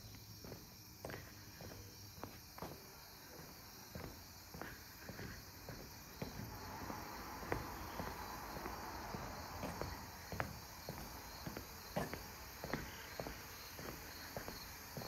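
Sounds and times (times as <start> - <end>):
footsteps on wooden planks: 0.0 - 15.0.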